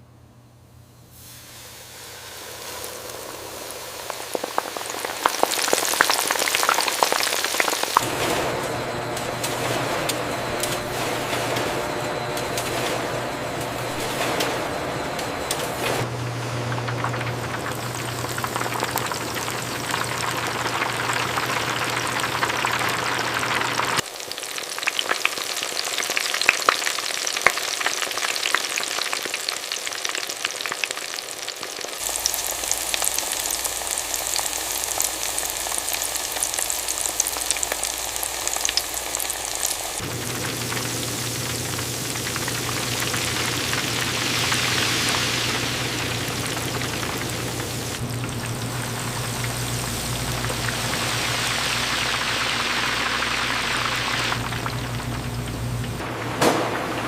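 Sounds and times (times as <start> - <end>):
chicken frying in hot oil: 1.2 - 57.0.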